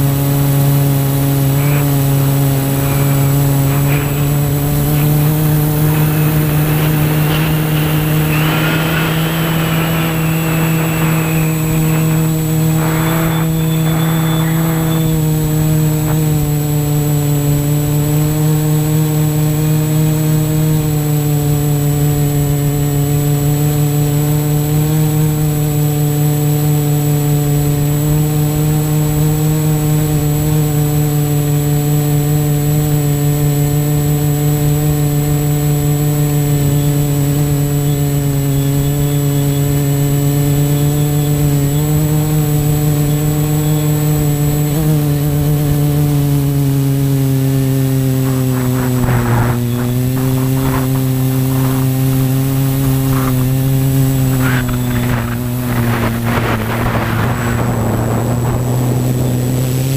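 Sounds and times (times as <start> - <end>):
drone motors buzzing: 0.0 - 59.9.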